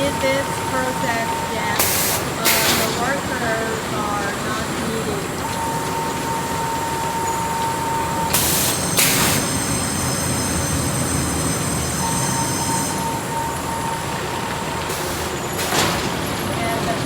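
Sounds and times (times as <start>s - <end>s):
production line machinery running: 0.0s - 17.0s.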